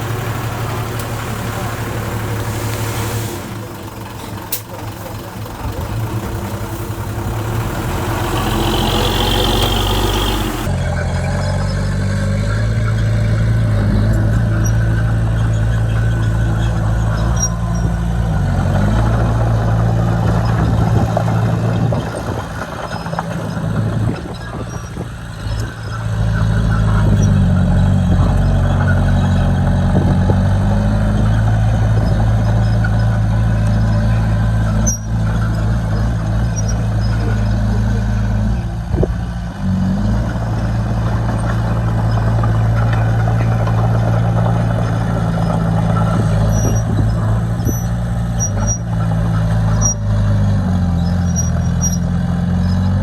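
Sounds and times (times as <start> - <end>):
heavy diesel engine under load: 0.0 - 53.0.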